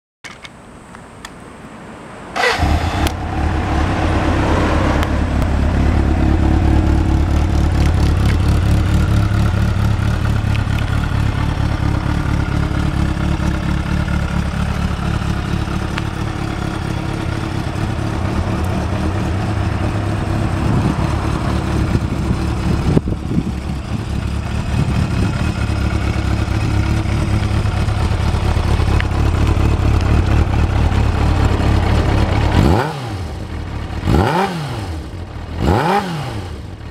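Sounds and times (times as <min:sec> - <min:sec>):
motorcycle engine starting and idling: 0:02.3 - 0:36.9
motorcycle engine revving: 0:02.4 - 0:36.9.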